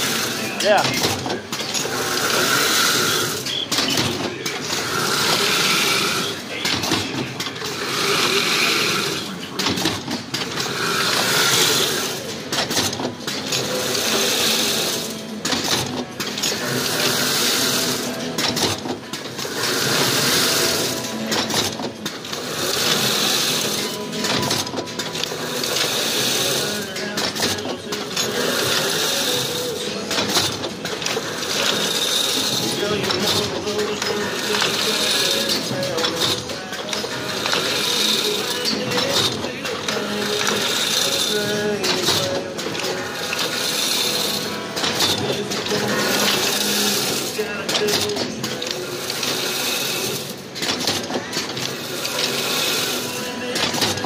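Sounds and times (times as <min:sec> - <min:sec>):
machine mechanical clatter: 0:00.0 - 0:54.0.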